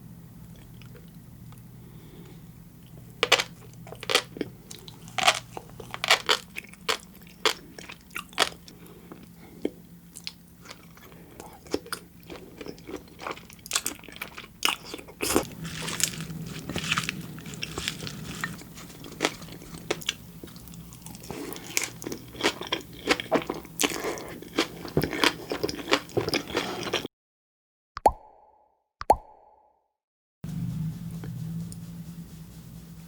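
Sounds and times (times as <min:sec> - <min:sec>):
crunchy chewing: 0:00.5 - 0:27.1.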